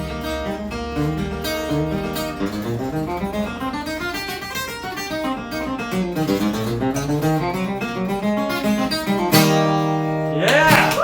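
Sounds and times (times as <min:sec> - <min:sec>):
acoustic guitar picking and strumming: 0:00.0 - 0:11.0.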